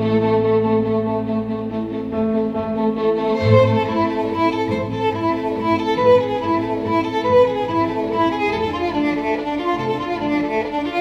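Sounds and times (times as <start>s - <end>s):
classical violin music: 0.0s - 11.0s.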